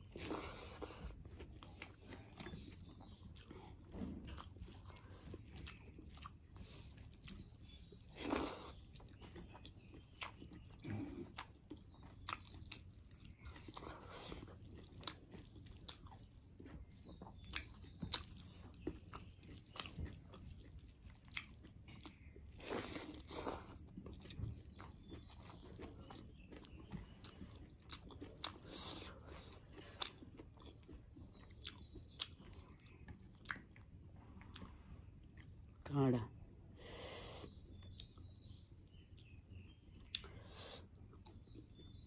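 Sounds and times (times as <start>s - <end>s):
chewing and mouth smacking: 0.0s - 35.8s, 37.4s - 42.0s.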